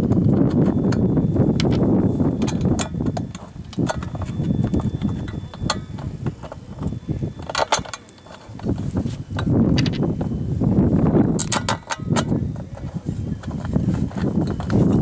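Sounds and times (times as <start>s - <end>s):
metal bolts clinking: 0.4s - 10.4s, 11.3s - 15.0s.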